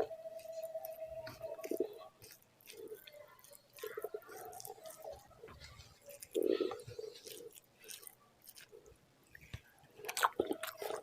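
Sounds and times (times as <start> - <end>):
faint steady tone: 0.0 - 10.0
close chewing with wet mouth sounds: 0.0 - 11.0.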